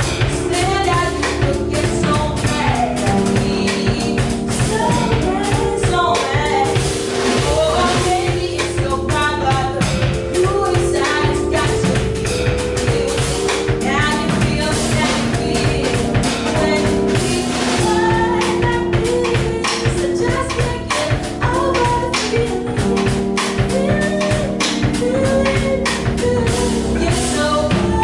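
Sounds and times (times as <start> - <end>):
held instrumental notes: 0.0 - 28.0
person singing: 0.0 - 28.0
steady drum beat: 0.0 - 28.0.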